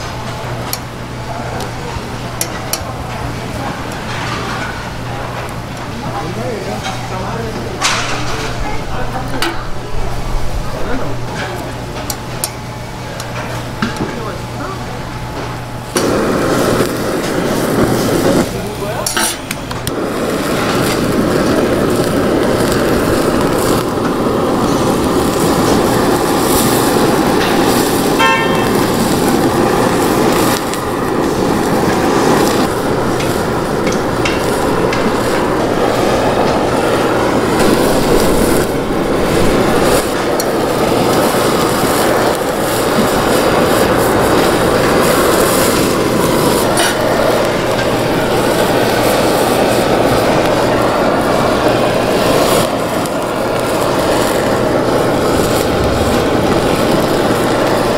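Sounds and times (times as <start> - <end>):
blowtorch flame roaring: 0.0 - 57.9.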